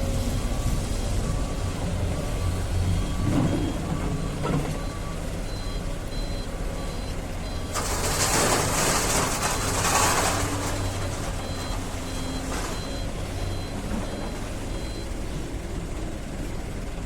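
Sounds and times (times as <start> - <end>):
excavator engine running: 0.0 - 17.0
warning alarm beeping: 1.0 - 15.1.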